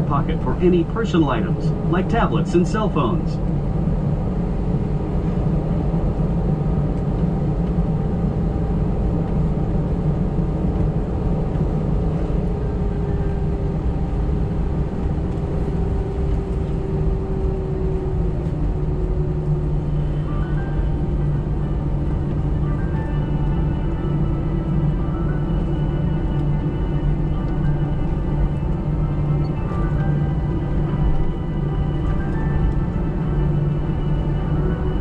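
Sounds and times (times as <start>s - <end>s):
jet engine cabin noise: 0.0s - 35.0s.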